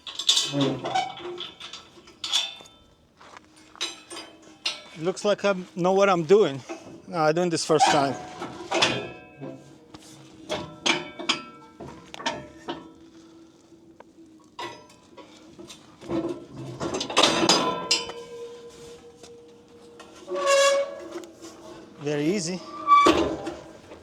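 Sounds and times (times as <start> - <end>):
metal clinking and rattling: 0.0 - 5.1, 7.8 - 24.0.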